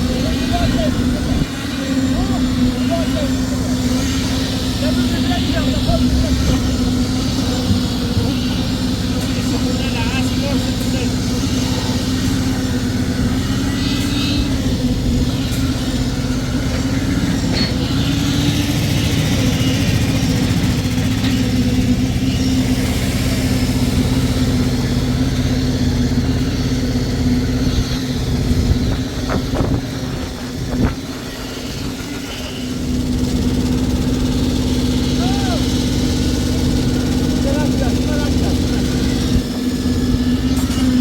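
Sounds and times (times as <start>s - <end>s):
engine running: 0.0s - 41.0s.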